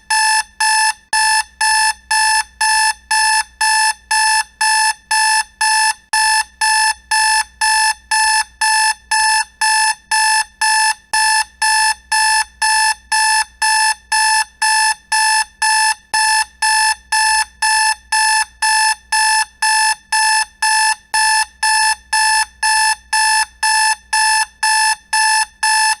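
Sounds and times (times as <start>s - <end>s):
alarm clock beeping: 0.1s - 26.0s.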